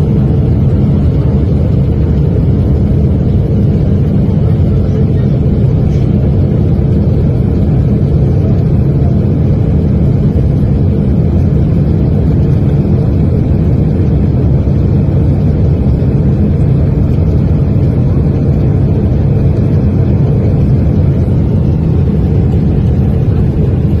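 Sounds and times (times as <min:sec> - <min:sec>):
airliner low rumble in flight: 0:00.0 - 0:24.0.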